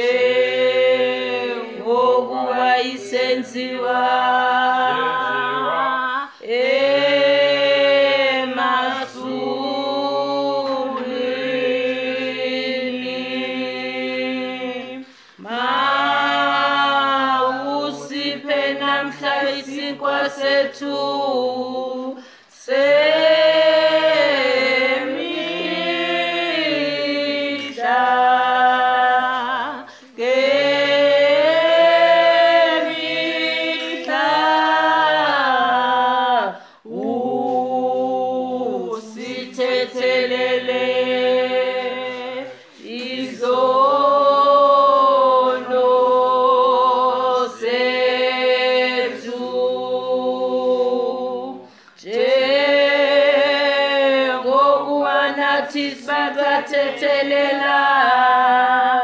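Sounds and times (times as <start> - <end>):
congregation singing unaccompanied: 0.0 - 59.0.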